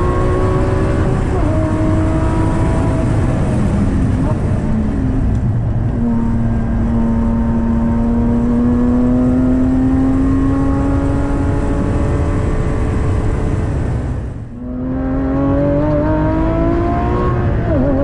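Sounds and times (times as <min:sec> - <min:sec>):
car engine revving up: 0:00.0 - 0:18.0
road and tyre rumble: 0:00.0 - 0:18.0.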